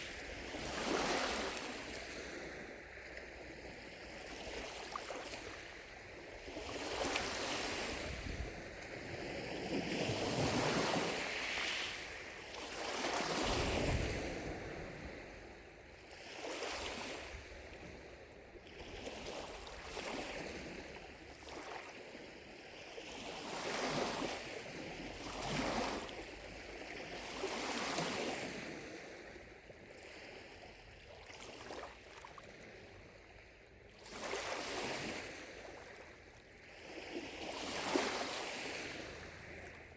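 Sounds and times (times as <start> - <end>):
lake waves lapping at shore: 0.0 - 39.9.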